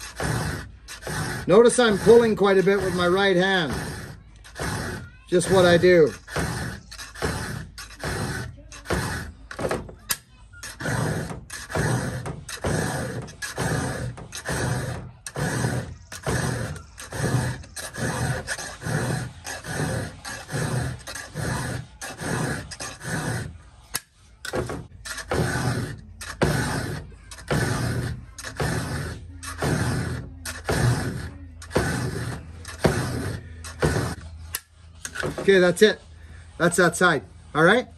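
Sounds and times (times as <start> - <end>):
file rasping on chainsaw chain: 0.0 - 24.0, 24.6 - 36.0.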